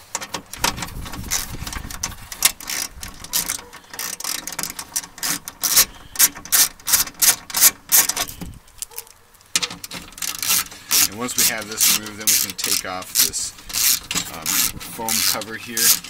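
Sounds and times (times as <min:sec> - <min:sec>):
ratchet wrench clicking: 0:01.2 - 0:08.5, 0:09.6 - 0:16.0.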